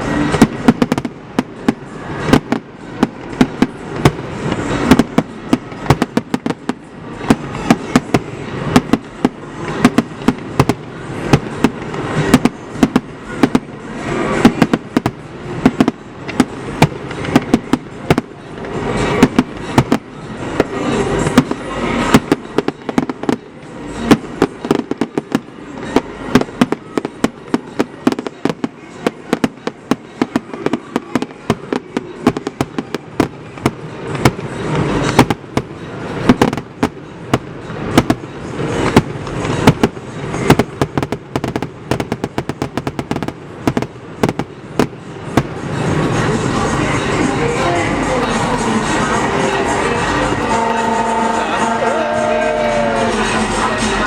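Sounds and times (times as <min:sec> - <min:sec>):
fireworks bangs and bursts: 0:00.0 - 0:54.0
rolling rumble: 0:00.0 - 0:54.0.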